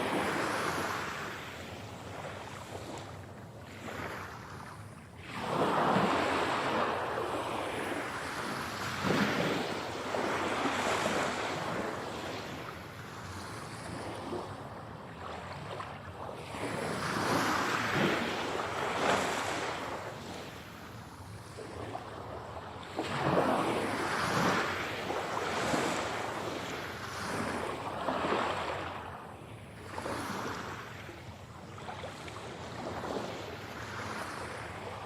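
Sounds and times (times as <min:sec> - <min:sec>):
sea waves breaking on shore: 0:00.0 - 0:35.0.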